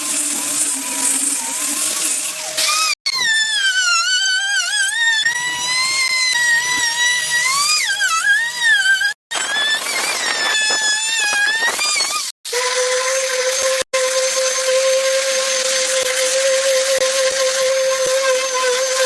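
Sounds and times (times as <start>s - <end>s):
rough cutting noise: 2.0s - 19.0s
power tool motor whining: 2.2s - 19.0s.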